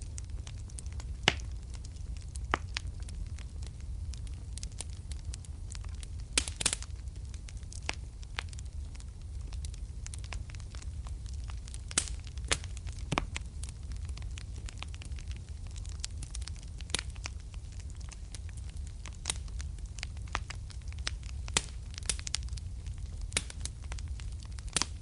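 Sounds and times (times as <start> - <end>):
fire crackles and pops: 0.0 - 25.0
fire rumbling in fireplace: 0.0 - 25.0.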